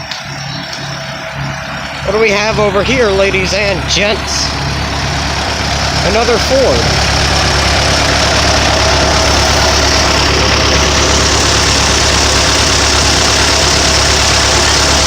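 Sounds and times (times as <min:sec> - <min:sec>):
large vehicle engine idling: 0:00.0 - 0:15.0.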